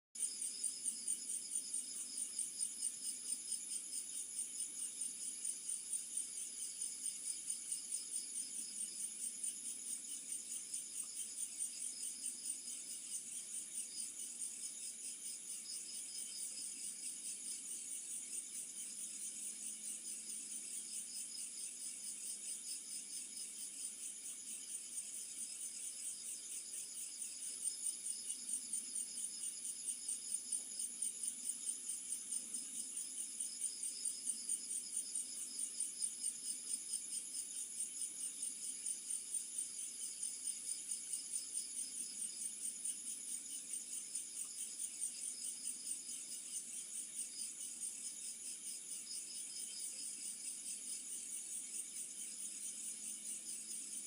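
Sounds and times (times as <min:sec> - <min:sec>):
night insects chirping: 0:00.2 - 0:54.0.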